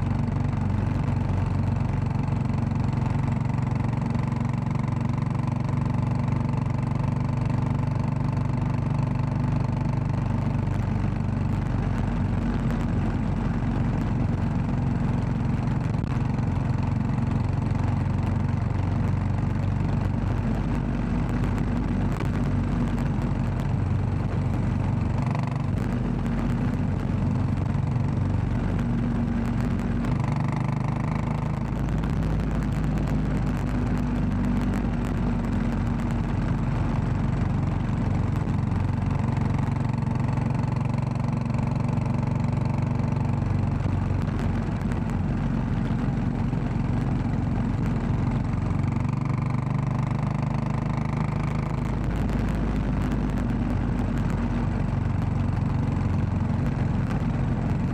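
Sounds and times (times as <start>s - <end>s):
motorcycle engine running: 0.0s - 57.9s
tyres on gravel road: 0.0s - 57.9s.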